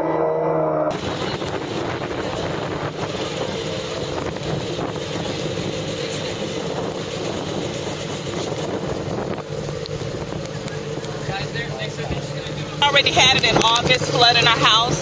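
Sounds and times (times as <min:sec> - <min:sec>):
vehicle engine running: 0:00.9 - 0:15.0.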